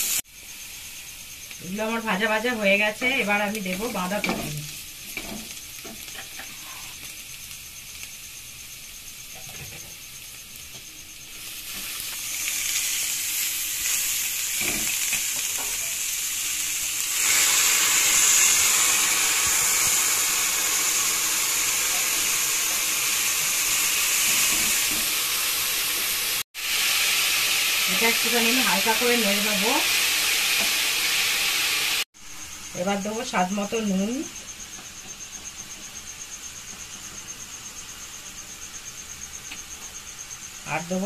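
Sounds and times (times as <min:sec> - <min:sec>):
vegetables sizzling in hot oil: 0:00.0 - 0:41.0.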